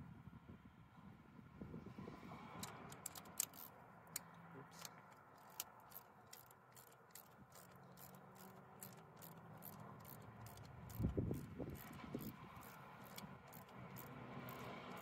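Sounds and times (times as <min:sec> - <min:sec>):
ratchet wrench clicking: 0:02.6 - 0:15.0.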